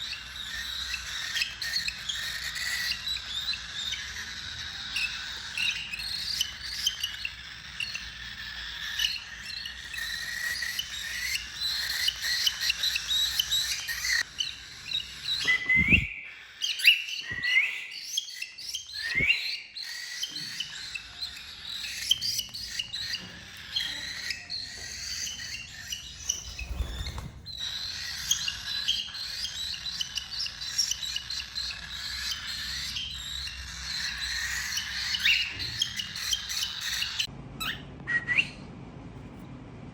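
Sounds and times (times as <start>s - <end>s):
cockatiels chirping and whistling: 0.0s - 38.6s.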